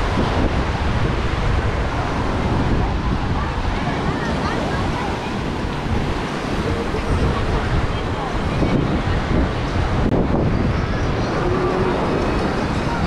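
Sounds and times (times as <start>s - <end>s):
surf breaking: 0.0s - 13.0s
wind buffeting microphone: 0.0s - 13.0s
people chattering: 1.4s - 13.0s.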